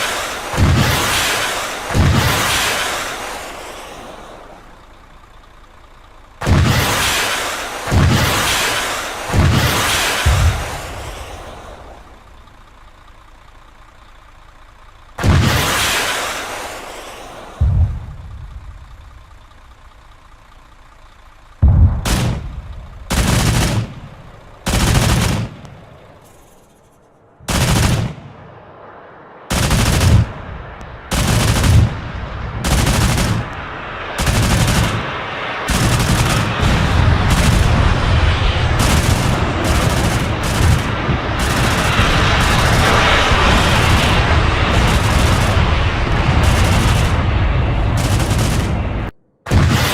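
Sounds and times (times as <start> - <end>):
autocannon firing bursts: 0.0 - 28.6, 29.4 - 49.9.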